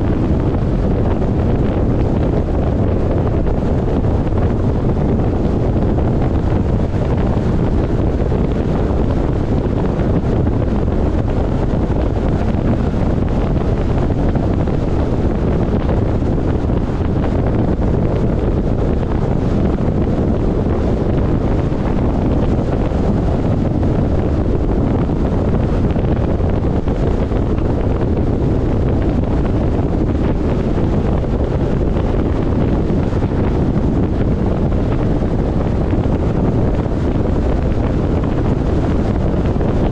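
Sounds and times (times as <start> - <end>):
car road noise at highway speed: 0.0 - 39.9
wind buffeting the microphone: 0.0 - 39.9.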